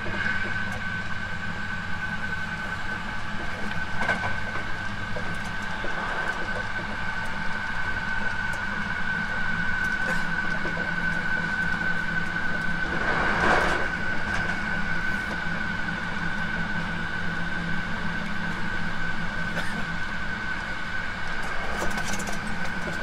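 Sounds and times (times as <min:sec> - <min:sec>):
electric train low rumble: 0:00.0 - 0:23.0
train high-pitched whine: 0:00.0 - 0:23.0.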